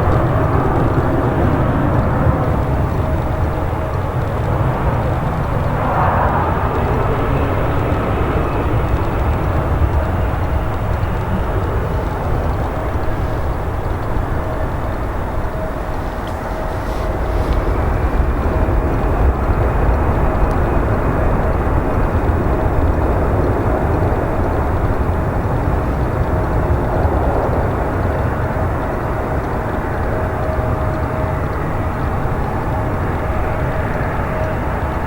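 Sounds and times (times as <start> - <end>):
jet engines rumbling and whining: 0.0 - 35.0.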